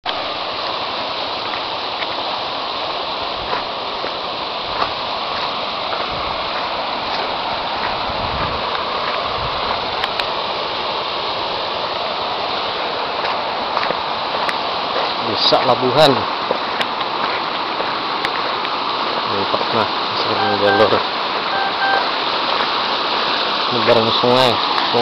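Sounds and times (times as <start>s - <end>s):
river water rushing over stones: 0.1s - 25.0s.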